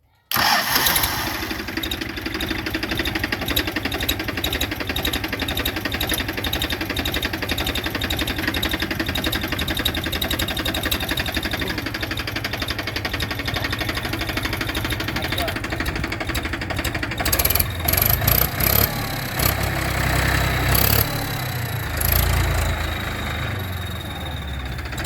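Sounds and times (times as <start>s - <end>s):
diesel tractor engine idling: 0.3s - 25.0s.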